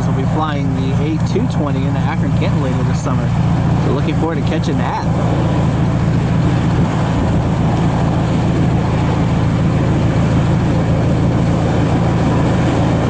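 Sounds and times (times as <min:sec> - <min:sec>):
car interior engine rumble: 0:00.0 - 0:13.0.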